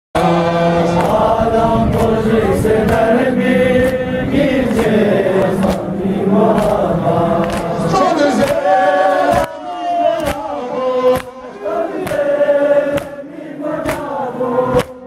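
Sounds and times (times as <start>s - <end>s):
men chanting a lament: 0.2s - 15.0s.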